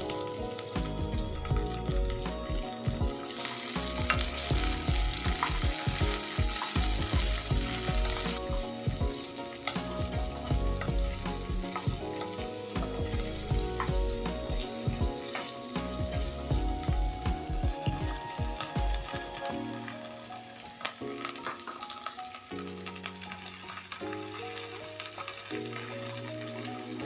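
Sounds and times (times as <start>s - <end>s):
vegetables sizzling in a wok: 0.0s - 27.0s.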